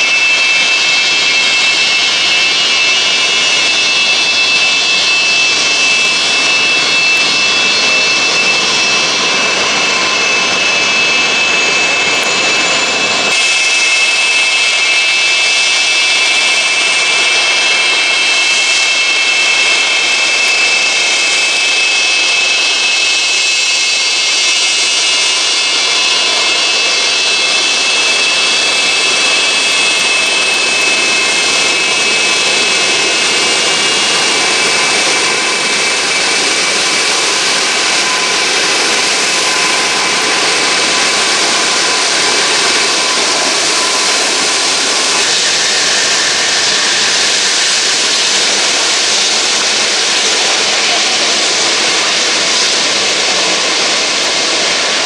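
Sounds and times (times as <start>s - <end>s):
jet engines roaring with whine: 0.0s - 55.0s.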